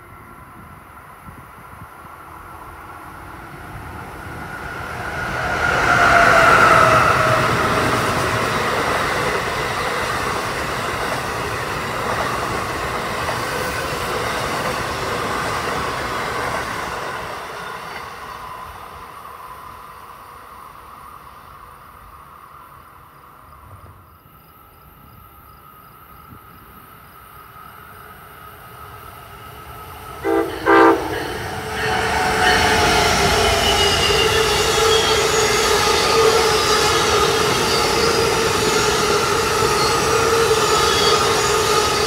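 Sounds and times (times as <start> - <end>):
electric train passing: 0.0 - 42.0
train cars rushing on rails: 0.0 - 42.0.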